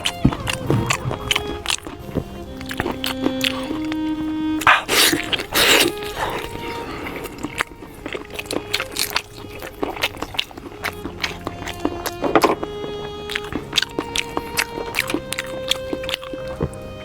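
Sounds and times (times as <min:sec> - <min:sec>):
slurping or tearing noises: 0:00.0 - 0:16.8
wet chewing and lip smacks: 0:00.0 - 0:16.8
faint background music: 0:00.0 - 0:17.0.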